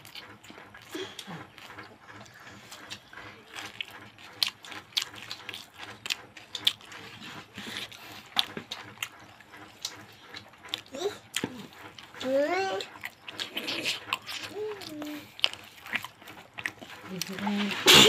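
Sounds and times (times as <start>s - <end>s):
person chewing with lips smacking: 0.0s - 17.7s.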